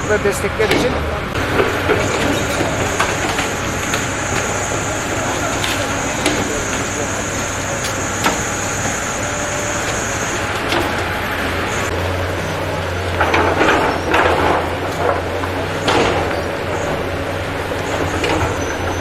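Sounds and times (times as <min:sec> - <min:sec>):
engine humming: 0:00.0 - 0:19.0
ragged noisy bursts: 0:00.0 - 0:19.0.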